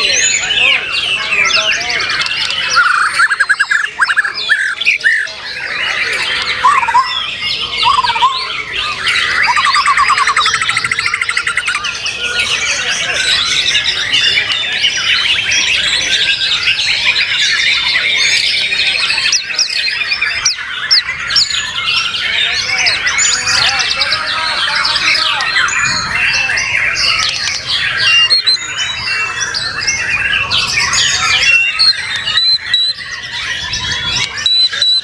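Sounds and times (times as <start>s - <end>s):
birds singing trills and whistles: 0.0s - 35.0s.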